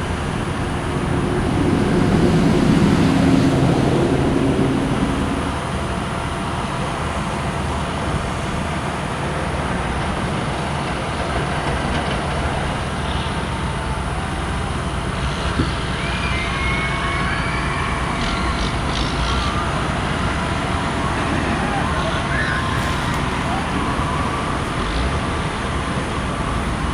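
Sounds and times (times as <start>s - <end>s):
vehicle and road rumble: 0.0s - 26.9s.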